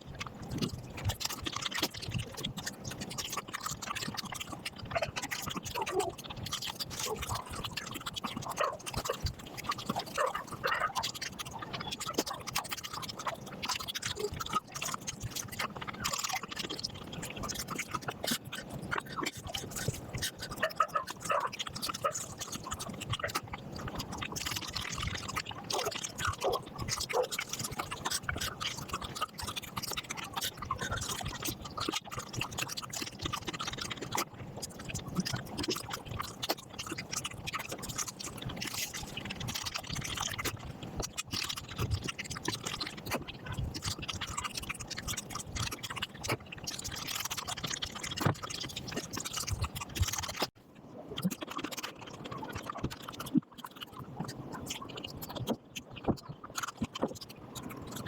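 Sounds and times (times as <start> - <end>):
sped-up wet chewing: 0.0 - 58.0.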